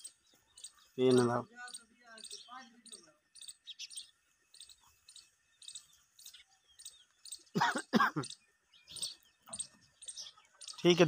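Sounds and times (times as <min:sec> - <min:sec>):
harsh bird calls: 0:00.0 - 0:11.0
small bird chirping: 0:00.0 - 0:11.0.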